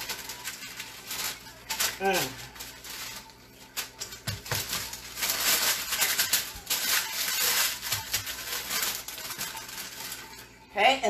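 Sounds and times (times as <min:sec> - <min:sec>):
paper crinkling and rustling: 0:00.0 - 0:10.8.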